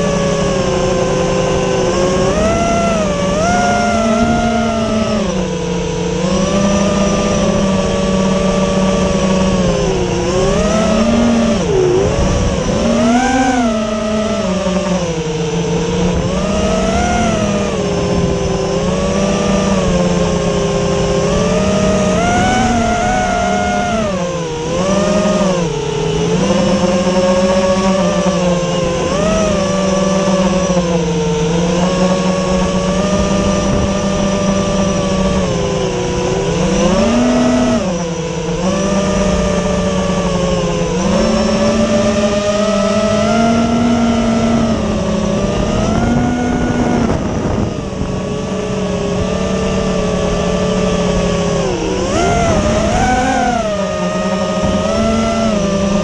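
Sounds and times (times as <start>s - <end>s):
drone motors buzzing: 0.0s - 56.0s.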